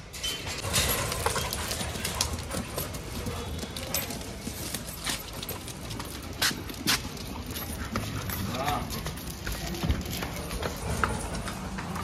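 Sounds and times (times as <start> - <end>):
dog claws clicking on concrete stairs: 0.4 - 12.0.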